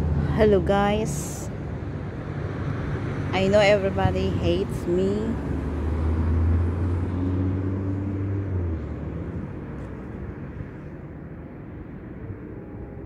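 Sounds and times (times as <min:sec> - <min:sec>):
vehicle engine running: 0:00.0 - 0:11.6
traffic rumble: 0:00.0 - 0:13.0.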